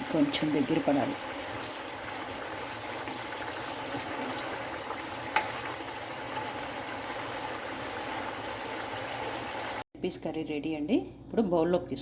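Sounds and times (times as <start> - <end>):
curry simmering and bubbling: 0.2 - 9.8.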